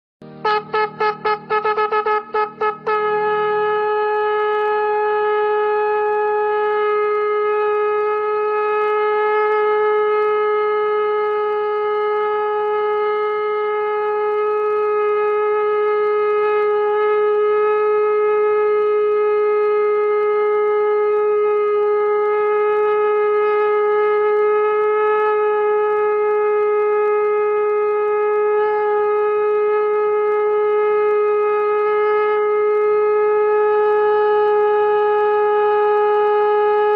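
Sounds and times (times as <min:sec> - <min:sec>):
conch shell blown: 0:00.2 - 0:36.9.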